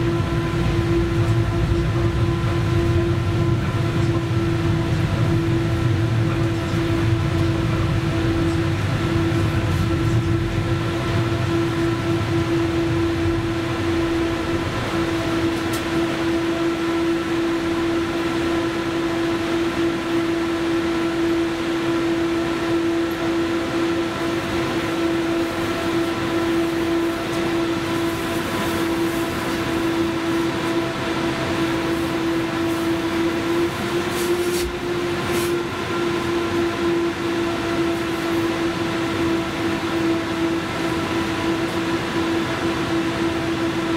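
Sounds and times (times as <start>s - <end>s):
tram electrical hum: 0.0s - 43.9s.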